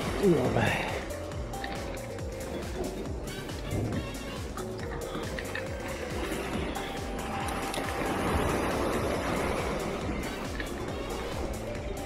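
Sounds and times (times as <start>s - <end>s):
background music with held tones: 0.0s - 12.0s.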